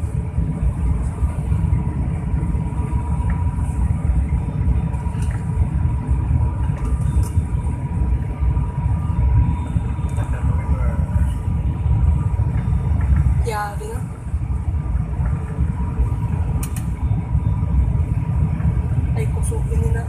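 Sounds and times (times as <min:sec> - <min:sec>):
airliner engine rumble: 0:00.0 - 0:20.0.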